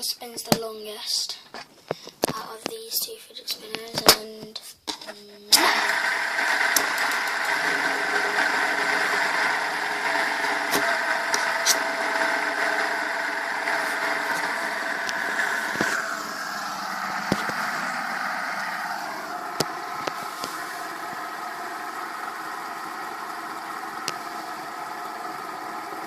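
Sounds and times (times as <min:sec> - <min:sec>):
fidget spinners whirring: 0:05.0 - 0:26.0.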